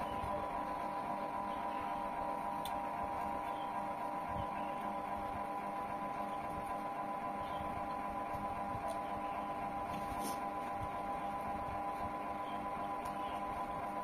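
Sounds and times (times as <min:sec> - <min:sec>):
appliance humming: 0:00.0 - 0:14.0.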